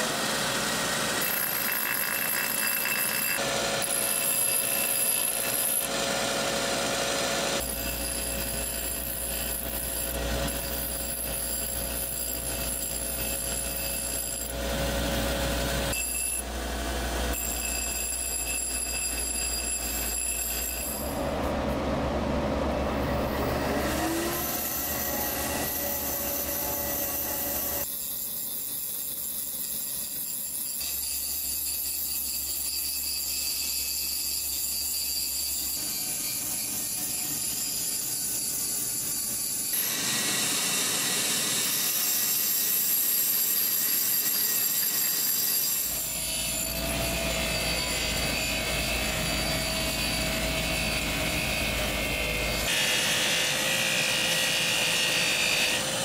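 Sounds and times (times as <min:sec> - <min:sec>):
rotary tool grinding: 0:00.7 - 0:16.5, 0:17.3 - 0:21.1, 0:23.7 - 0:51.8.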